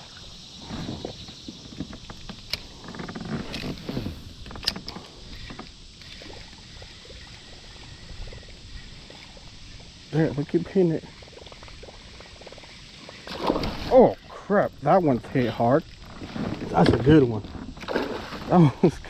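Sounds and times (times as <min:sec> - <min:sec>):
water sloshing against hull: 0:00.0 - 0:19.0.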